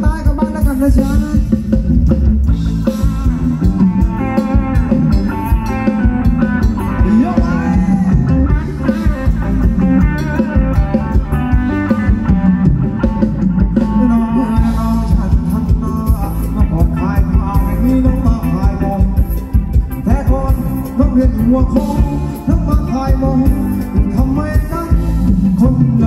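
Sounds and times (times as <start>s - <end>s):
amplified band dance music: 0.0s - 26.0s
steady drum beat: 0.0s - 26.0s.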